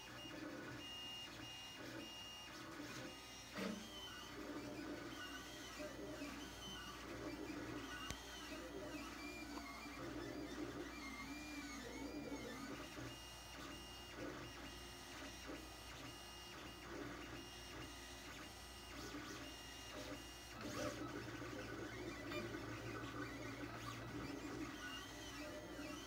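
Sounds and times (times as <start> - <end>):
three-d printer stepper motors whining: 0.0 - 26.0.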